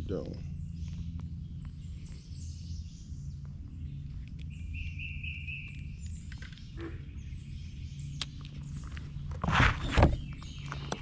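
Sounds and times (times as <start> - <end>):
birds chirping: 0.0 - 11.0
steady low rumble: 0.0 - 11.0.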